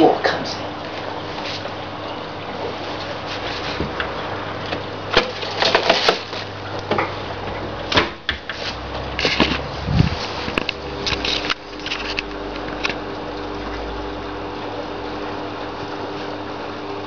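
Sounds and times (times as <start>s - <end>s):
dishwasher humming: 0.0s - 17.0s.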